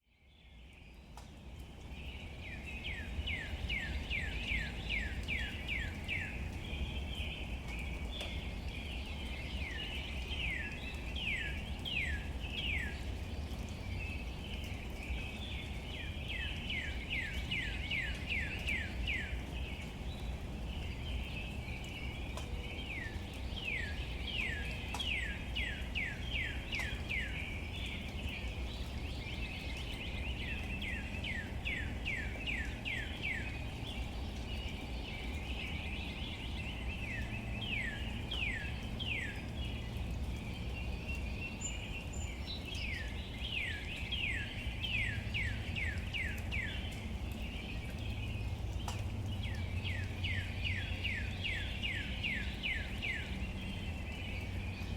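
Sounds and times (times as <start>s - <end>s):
light rain on leaves: 0.0s - 54.9s
songbird whistling song: 2.1s - 54.9s.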